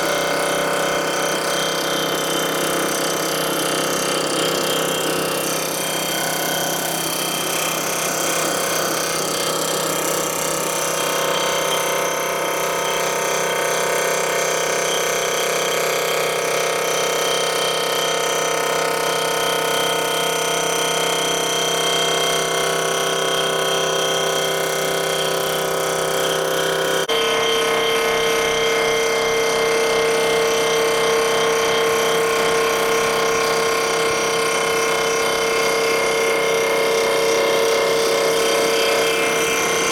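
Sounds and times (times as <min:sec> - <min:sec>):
cutter head machining metal whine: 0:00.0 - 0:39.9.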